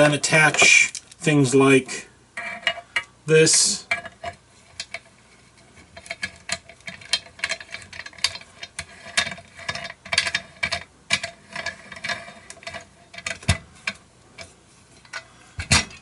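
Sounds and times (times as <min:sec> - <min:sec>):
small parts clicking and scraping: 0:00.4 - 0:01.3, 0:02.4 - 0:16.0.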